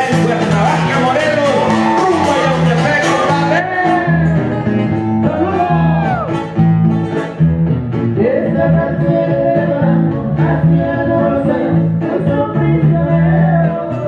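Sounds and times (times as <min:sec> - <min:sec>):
person singing: 0:00.0 - 0:06.4, 0:08.2 - 0:14.0
live band playing: 0:00.0 - 0:14.0.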